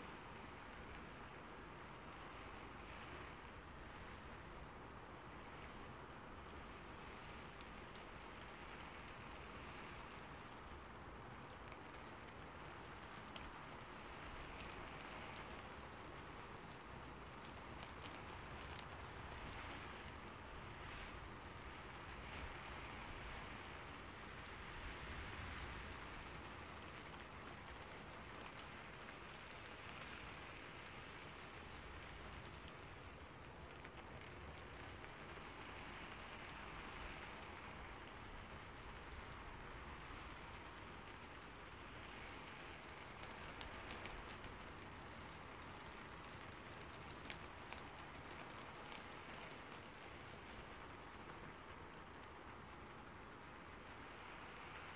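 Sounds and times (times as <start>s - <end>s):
rain-like patter: 0.0s - 54.9s.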